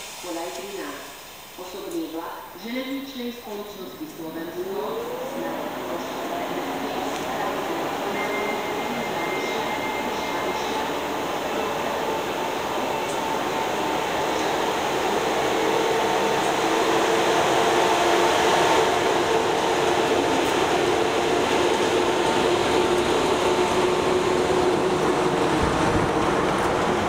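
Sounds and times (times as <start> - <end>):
electric locomotive hum and rumble: 0.0 - 27.0.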